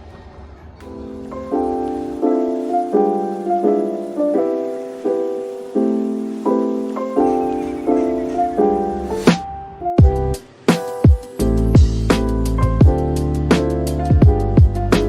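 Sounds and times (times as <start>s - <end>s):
mellow piano chords: 0.8s - 15.0s.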